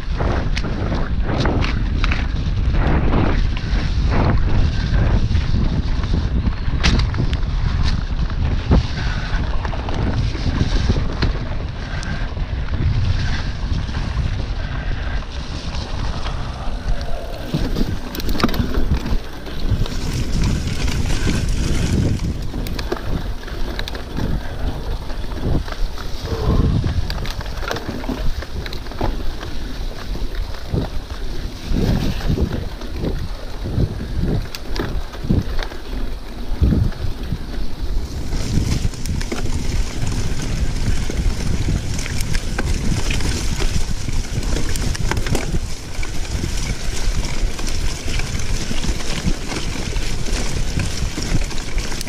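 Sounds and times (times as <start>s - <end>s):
bike knocks and rattles: 0.0s - 52.0s
tyre rumble on dirt trail: 0.0s - 52.0s
wind buffeting microphone: 0.0s - 52.0s.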